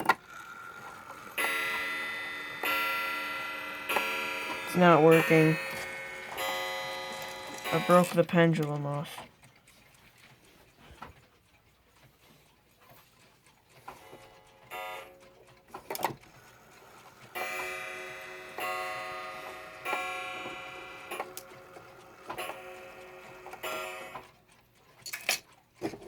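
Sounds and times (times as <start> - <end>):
clock striking: 0.0 - 26.0
mechanical clock ticking: 0.0 - 26.0.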